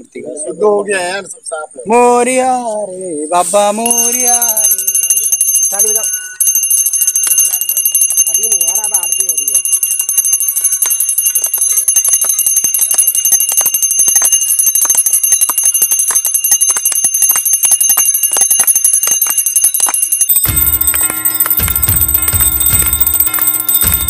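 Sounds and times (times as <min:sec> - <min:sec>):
hand bell ringing rapidly: 0:03.9 - 0:24.0.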